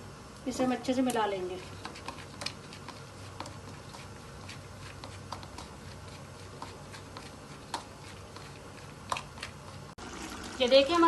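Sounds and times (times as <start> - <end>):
fingers mixing herbs in plastic bowl: 0.8 - 10.0.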